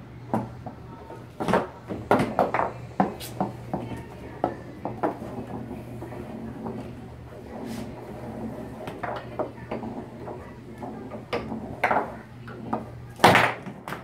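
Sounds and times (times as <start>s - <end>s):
foosball ball knocks and clacks: 0.3s - 14.0s.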